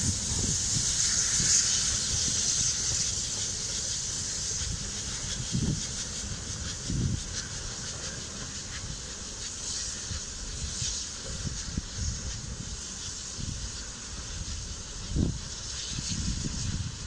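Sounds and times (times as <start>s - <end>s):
locomotive low rumble: 0.0s - 15.6s
steam hissing: 0.0s - 17.0s.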